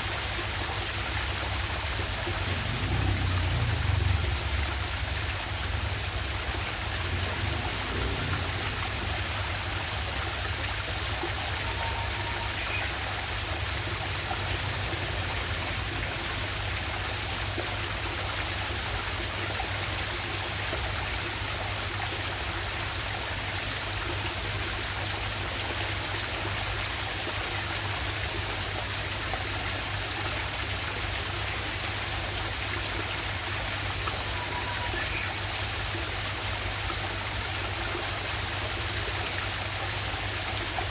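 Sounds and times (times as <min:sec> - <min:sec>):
small waterfall and stream: 0:00.0 - 0:40.9.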